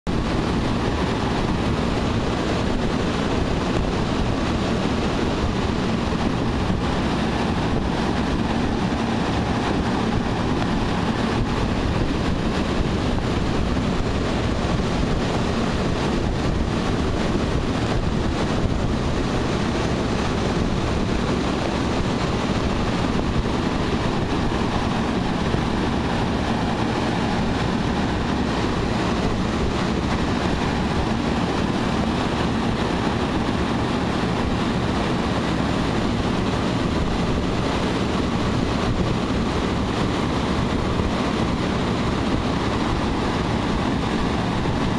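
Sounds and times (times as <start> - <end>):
fans blowing air: 0.0 - 44.9.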